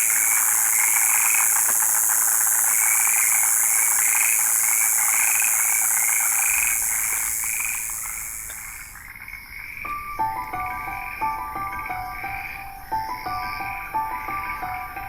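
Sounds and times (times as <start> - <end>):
frogs croaking in chorus: 0.0 - 15.0
steady high hiss: 0.0 - 15.0.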